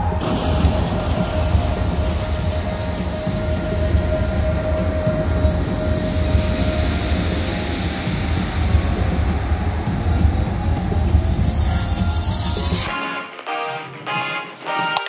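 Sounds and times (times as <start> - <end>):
deep pulsing rumble: 0.0 - 12.9
hiss: 0.0 - 13.0.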